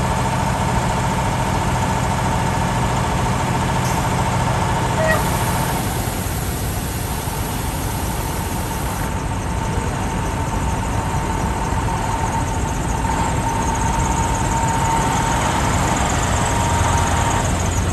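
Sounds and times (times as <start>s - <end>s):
diesel truck engine idling: 0.0s - 17.9s.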